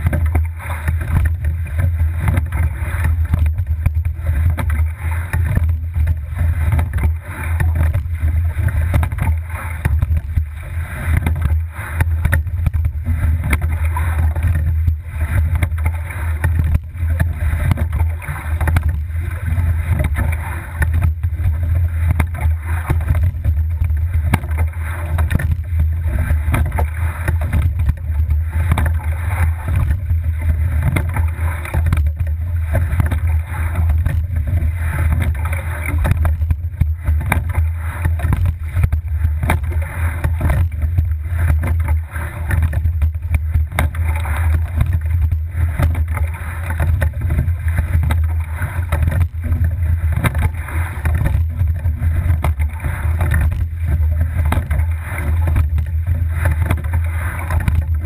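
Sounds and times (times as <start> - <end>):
oar blades splashing: 0.0 - 58.0
steady low rumble: 0.0 - 58.0
water rushing past hull: 0.0 - 58.0.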